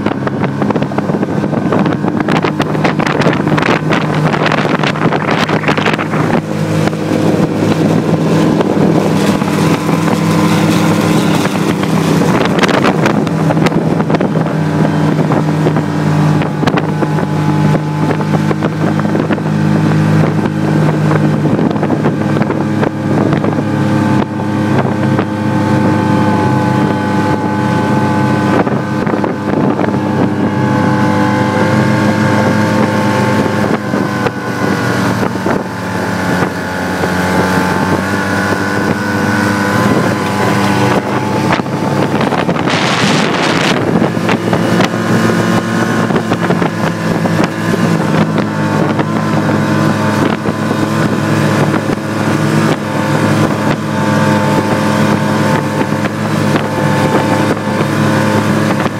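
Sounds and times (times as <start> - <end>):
snowmobile engine under load: 0.0 - 58.9.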